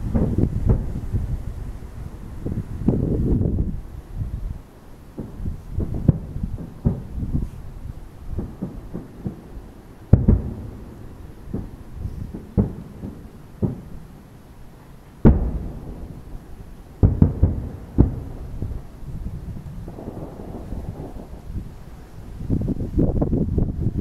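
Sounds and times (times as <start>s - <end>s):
fireworks popping: 0.0s - 3.8s, 5.1s - 14.2s, 15.2s - 24.0s
fireworks booming: 0.0s - 24.0s.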